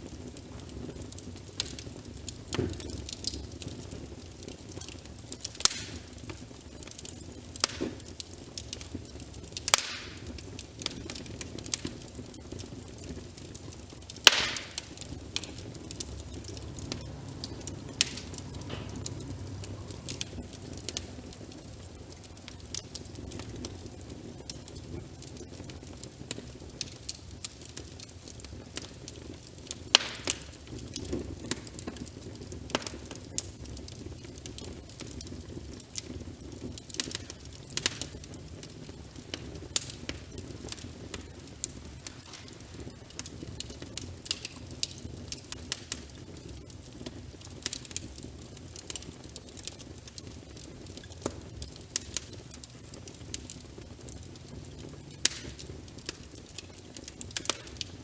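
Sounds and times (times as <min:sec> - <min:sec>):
soft rain: 0:00.0 - 0:58.0
wood fire crackling: 0:00.0 - 0:58.0.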